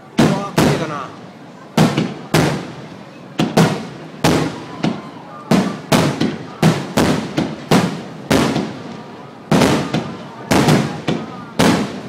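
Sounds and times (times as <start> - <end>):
firework shells bursting: 1.8 - 12.0.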